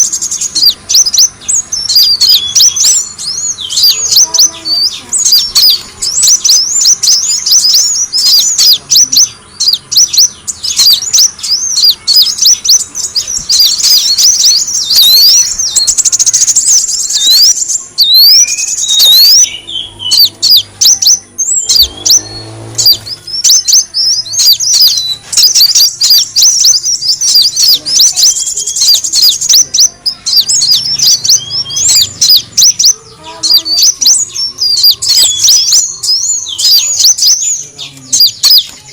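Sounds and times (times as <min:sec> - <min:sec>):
bird chirping calls: 0:00.0 - 0:38.9.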